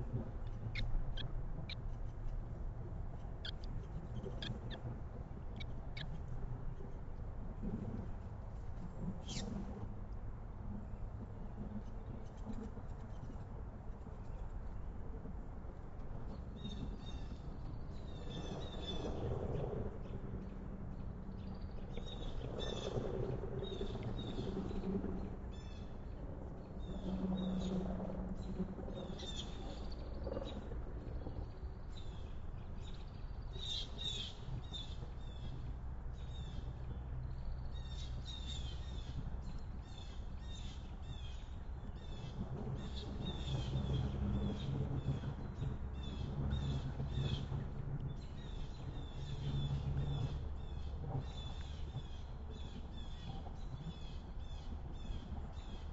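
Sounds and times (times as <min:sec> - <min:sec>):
steady low rumble: 0:00.0 - 0:55.9.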